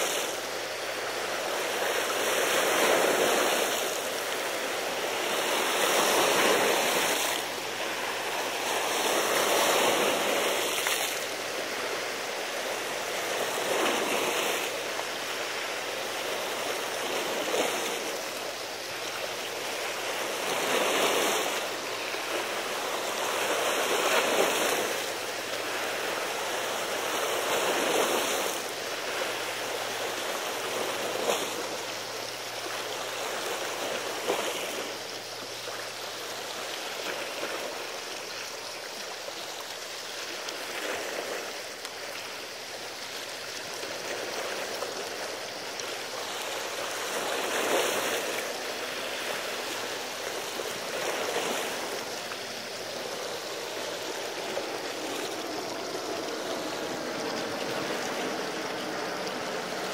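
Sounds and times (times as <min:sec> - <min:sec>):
waves washing against rocks: 0:00.0 - 0:59.9.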